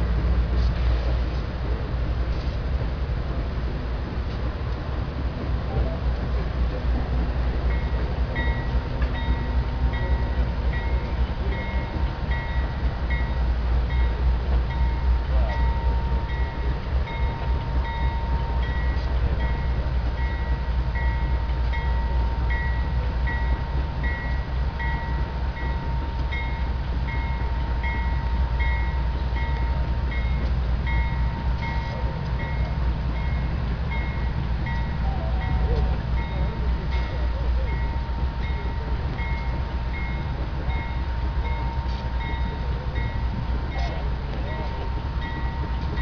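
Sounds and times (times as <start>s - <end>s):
freight train rumbling on bridge: 0.0s - 46.0s.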